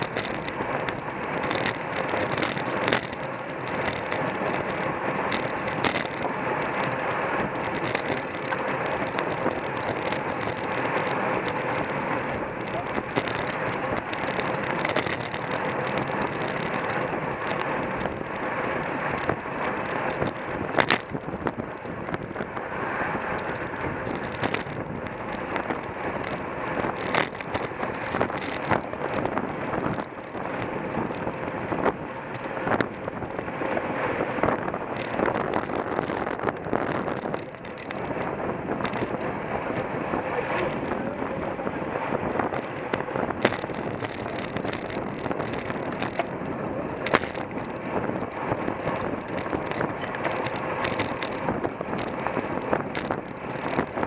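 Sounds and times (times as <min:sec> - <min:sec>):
road and bike rattle: 0:00.0 - 0:54.0
wind rushing over microphone: 0:00.0 - 0:54.0.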